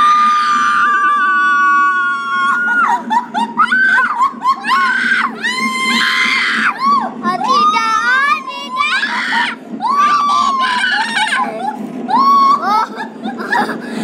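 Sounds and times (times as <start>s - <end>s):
children screaming: 0.0s - 14.0s.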